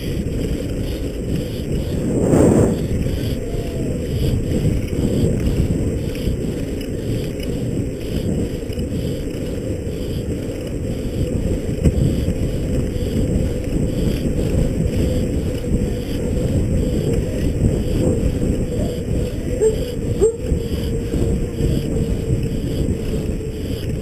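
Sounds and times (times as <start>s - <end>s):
constant rattling: 0.0s - 24.0s
low rumble: 0.0s - 24.0s
wind noise on microphone: 0.0s - 24.0s.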